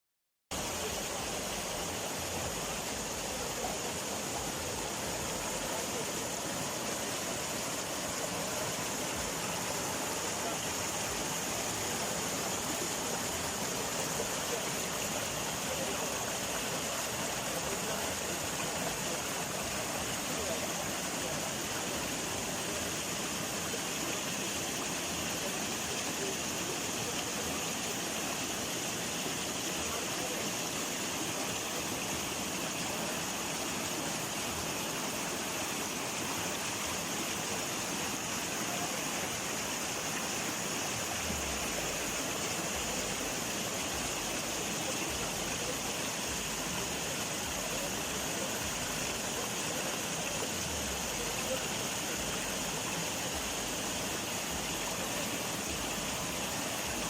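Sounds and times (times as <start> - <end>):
rushing water: 0.5 - 57.0.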